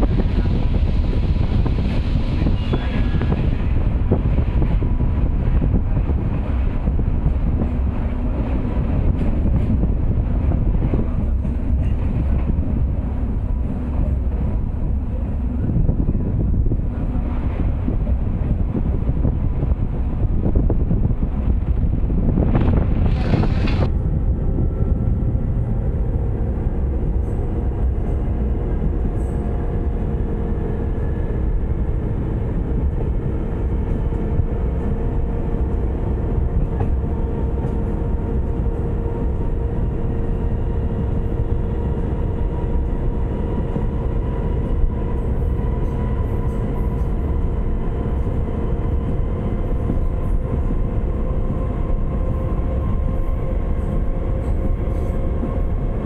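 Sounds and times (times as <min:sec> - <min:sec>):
train rumbling on track: 0:00.0 - 0:56.0
wind noise on microphone: 0:00.0 - 0:56.0.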